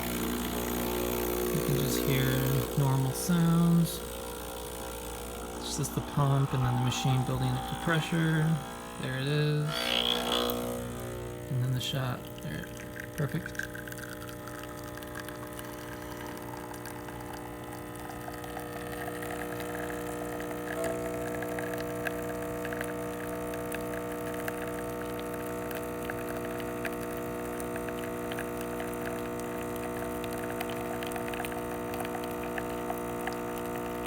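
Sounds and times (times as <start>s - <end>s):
espresso machine pump humming: 0.0s - 34.0s.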